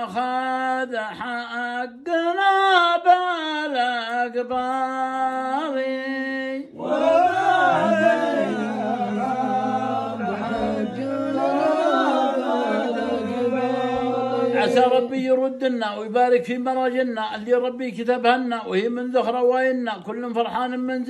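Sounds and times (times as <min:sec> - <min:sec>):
elderly man chanting: 0:00.0 - 0:21.0.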